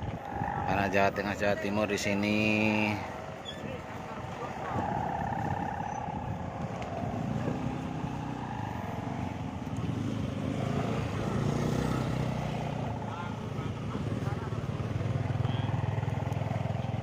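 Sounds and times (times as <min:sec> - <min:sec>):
kite hummers droning: 0:00.0 - 0:17.0.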